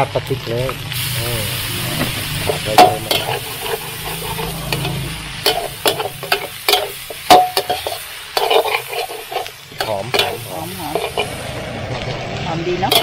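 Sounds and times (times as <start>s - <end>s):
food sizzling in a wok: 0.0s - 13.0s
metal spatula scraping a pan: 1.8s - 13.0s.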